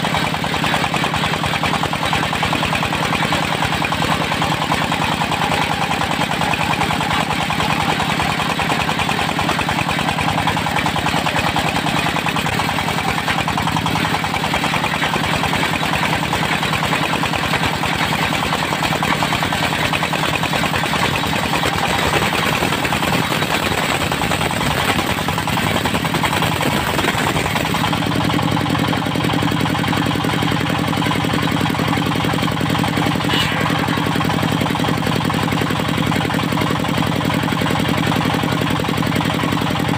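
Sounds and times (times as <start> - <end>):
diesel engine of sawmill running: 0.0 - 39.9.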